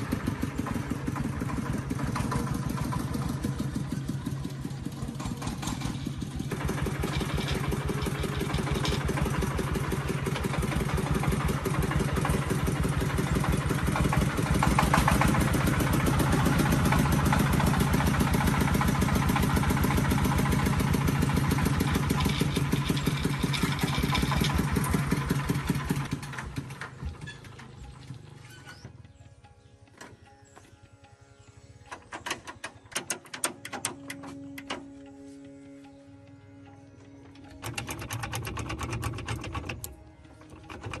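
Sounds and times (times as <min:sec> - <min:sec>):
diesel engine running: 0:00.0 - 0:29.9, 0:30.7 - 0:41.0.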